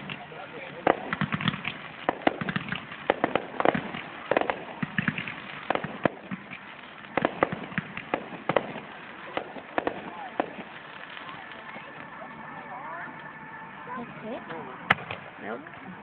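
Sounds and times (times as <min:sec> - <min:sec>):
fireworks bangs and pops: 0:00.0 - 0:12.2, 0:14.5 - 0:16.0.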